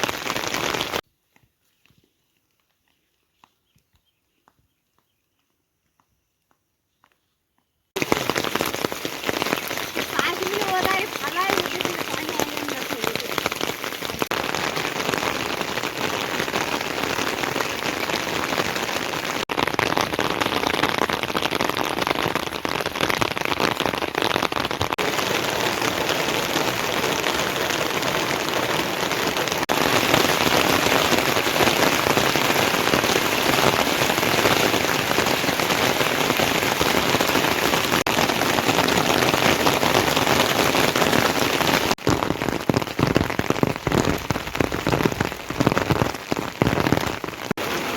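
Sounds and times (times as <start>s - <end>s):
heavy rain pouring: 0.0s - 1.0s, 8.0s - 47.9s.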